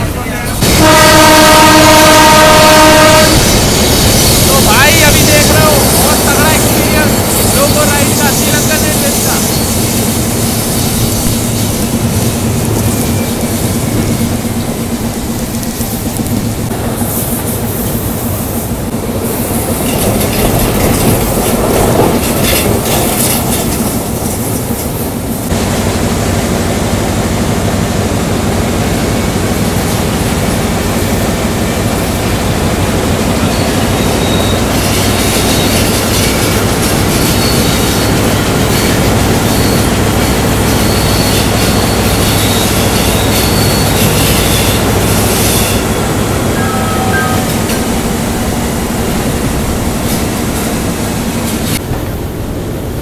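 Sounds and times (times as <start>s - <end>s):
diesel locomotive engine drone: 0.0s - 53.0s
train clattering on rails: 0.0s - 53.0s.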